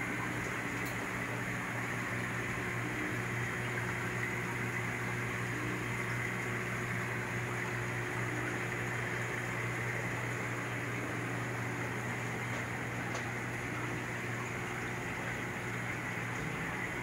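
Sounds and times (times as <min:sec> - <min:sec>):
bubbling flowing water: 0:00.0 - 0:17.0
pumps humming: 0:00.0 - 0:17.0.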